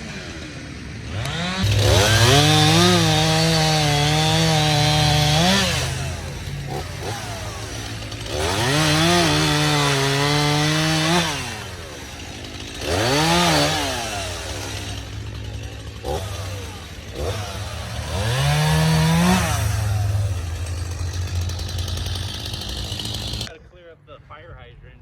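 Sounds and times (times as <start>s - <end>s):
chainsaw idling and revving: 0.0s - 23.6s.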